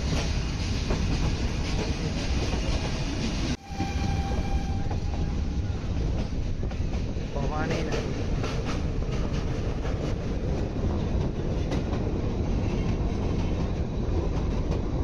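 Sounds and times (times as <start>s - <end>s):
train rumble: 0.0s - 15.0s
wheels clacking over rail joints: 0.0s - 15.0s.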